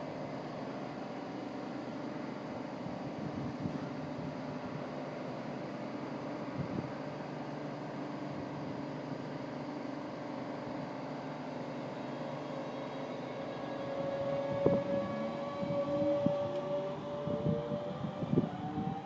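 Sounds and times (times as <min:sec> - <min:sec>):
train electrics humming: 0:00.0 - 0:19.0.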